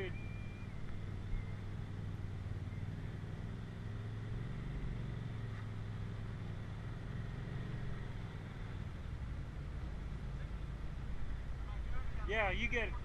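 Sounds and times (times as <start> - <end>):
off-road vehicle engine at low revs: 0.0 - 13.0.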